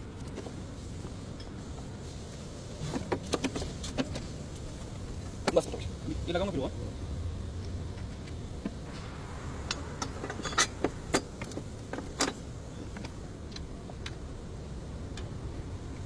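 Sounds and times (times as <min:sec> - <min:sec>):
car engine rumbling: 0:01.9 - 0:15.8.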